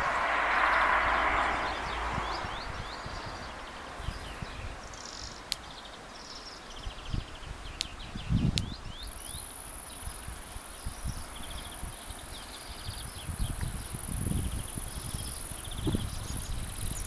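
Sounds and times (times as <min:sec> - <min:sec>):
wind buffeting microphone: 0:00.0 - 0:05.3, 0:06.7 - 0:17.0
small birds chirping: 0:00.0 - 0:17.0.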